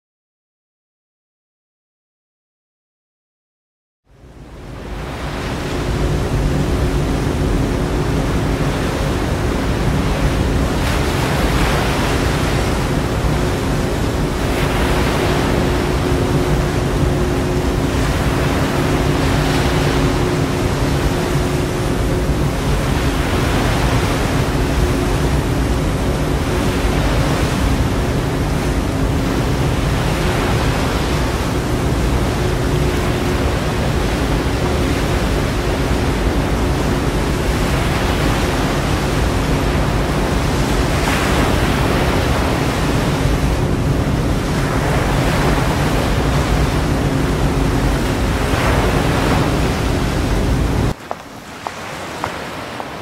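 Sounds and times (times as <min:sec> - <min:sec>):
hovercraft roaring: 0:04.9 - 0:53.0.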